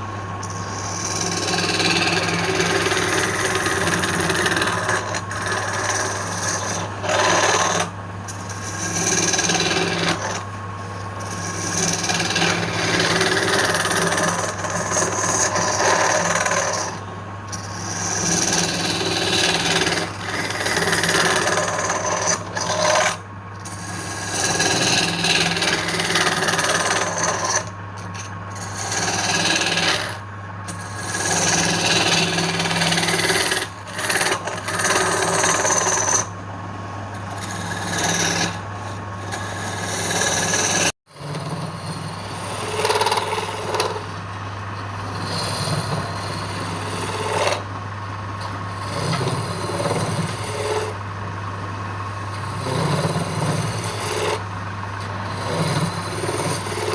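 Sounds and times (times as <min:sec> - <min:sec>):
lathe motor hum: 0:00.0 - 0:56.9
tool scraping spinning wood: 0:00.0 - 0:56.9.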